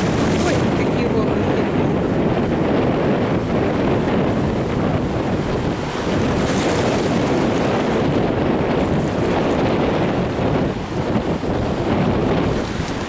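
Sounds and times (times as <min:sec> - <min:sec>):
sea waves washing: 0:00.0 - 0:13.0
wind on microphone: 0:00.0 - 0:13.0.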